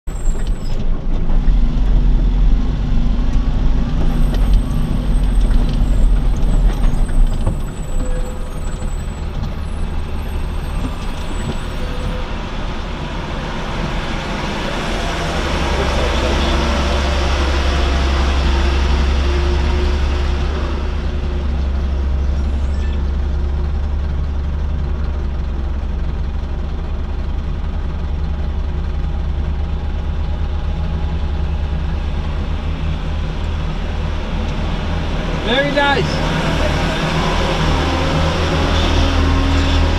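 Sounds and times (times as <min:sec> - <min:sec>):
vehicle engine and road rumble: 0:00.0 - 0:39.9
truck passing close: 0:00.1 - 0:39.9.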